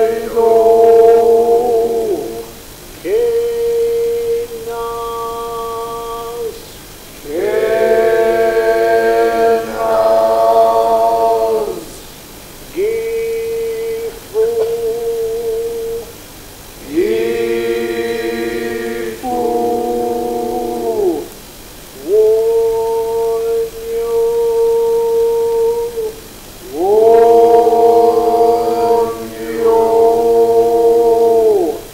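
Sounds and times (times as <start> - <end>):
voices chanting slowly: 0.0 - 31.9.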